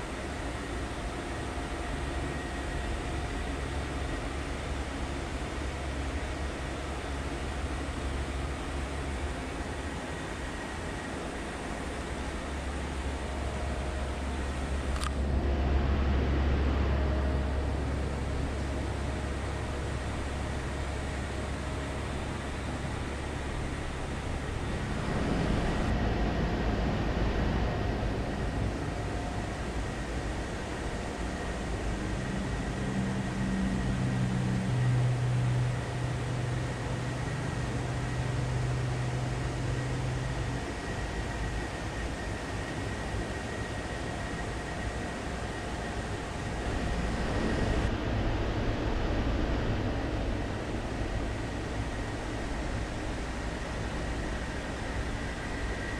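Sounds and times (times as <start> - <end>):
low mechanical hum: 0.0 - 55.9
low rumble with hiss: 0.0 - 55.9.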